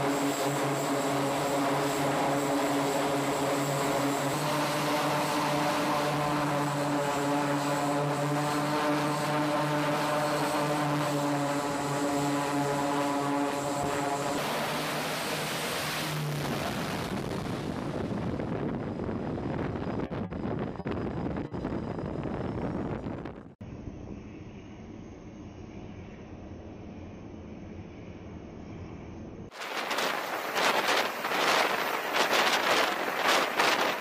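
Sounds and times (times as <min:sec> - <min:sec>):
aircraft rushing noise: 0:00.0 - 0:24.1, 0:28.7 - 0:34.0
turboprop engines droning: 0:00.0 - 0:34.0.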